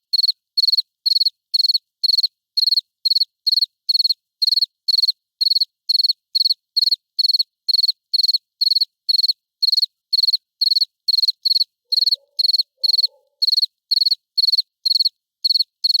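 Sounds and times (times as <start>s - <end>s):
cricket chirping: 0.1s - 16.0s.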